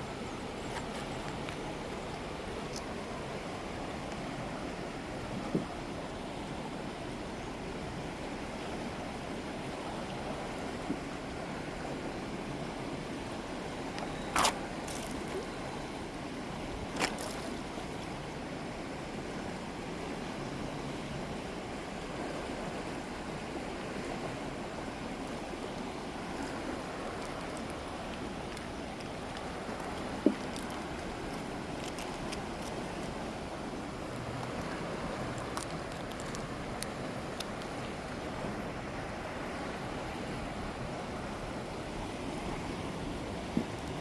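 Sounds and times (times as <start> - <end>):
river water running: 0.0 - 44.0.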